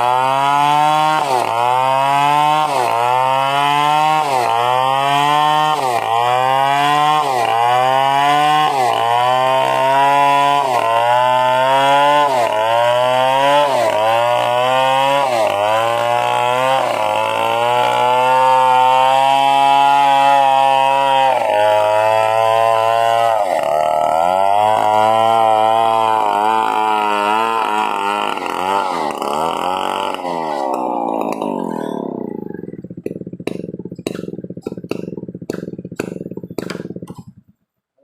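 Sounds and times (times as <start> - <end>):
chainsaw cutting wood: 0.0 - 38.0.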